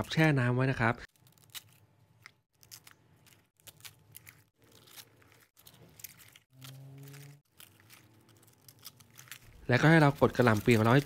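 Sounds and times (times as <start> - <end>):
cabbage leaves crinkling in water: 1.1 - 11.0.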